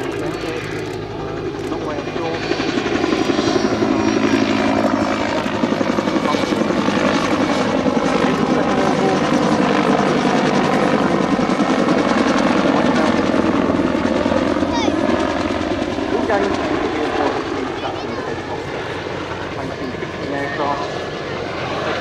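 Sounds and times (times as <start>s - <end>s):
helicopter rotor chopping: 0.0s - 22.0s.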